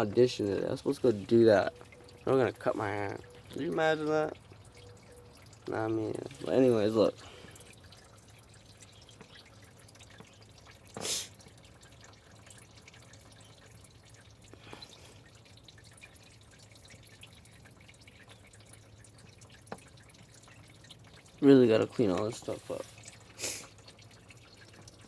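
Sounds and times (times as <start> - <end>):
faint coolant dripping: 0.0 - 25.0.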